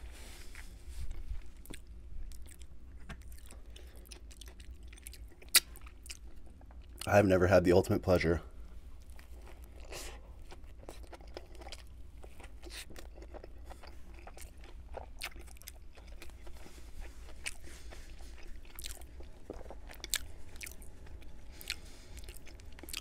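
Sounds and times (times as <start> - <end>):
close chewing with mouth clicks: 0.3 - 7.1, 9.0 - 23.0.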